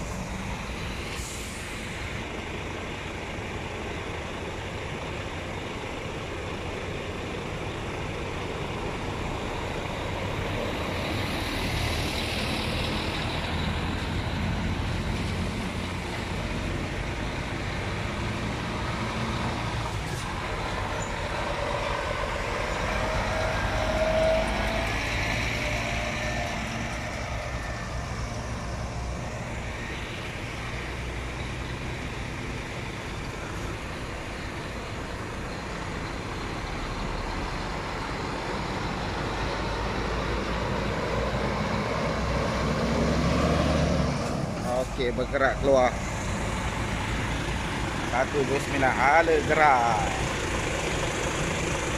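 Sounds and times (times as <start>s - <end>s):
truck diesel engines passing: 0.0s - 51.9s.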